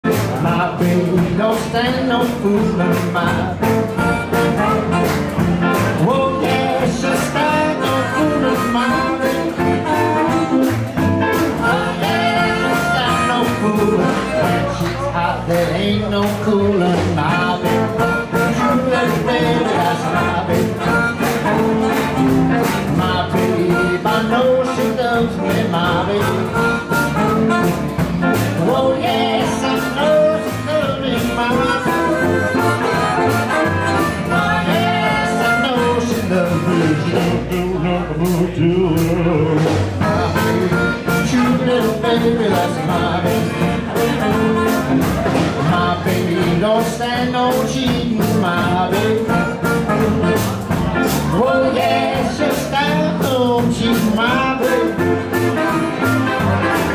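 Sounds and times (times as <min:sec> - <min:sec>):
live blues band playing: 0:00.0 - 0:56.9.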